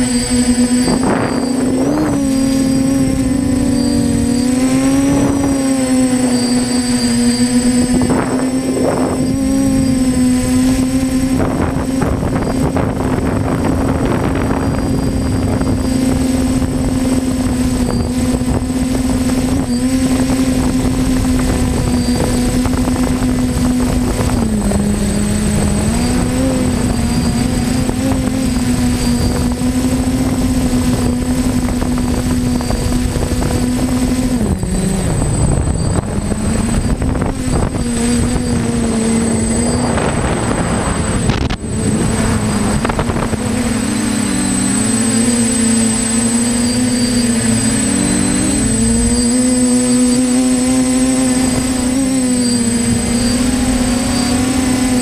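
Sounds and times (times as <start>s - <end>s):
quadcopter propellers humming: 0.0s - 55.0s.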